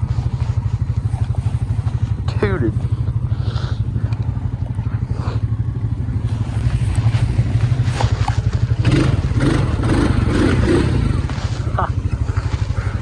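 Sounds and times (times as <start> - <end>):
atv engine running: 0.0 - 13.0
rattling noise: 0.2 - 13.0.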